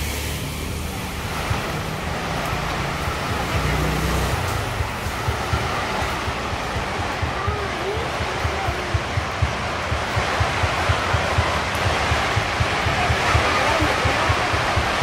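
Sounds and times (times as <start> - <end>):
low engine hum: 0.0 - 15.0
street traffic noise: 0.0 - 15.0
wind buffeting microphone: 0.5 - 15.0.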